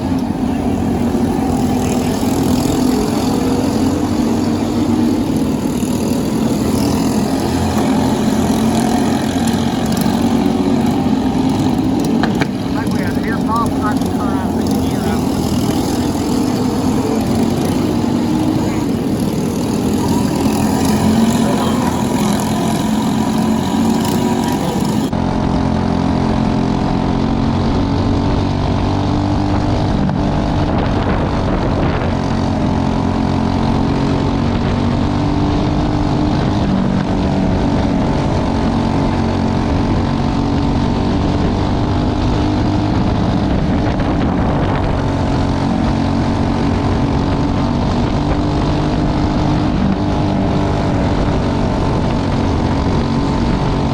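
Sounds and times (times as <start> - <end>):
kart engines buzzing: 0.0 - 53.9.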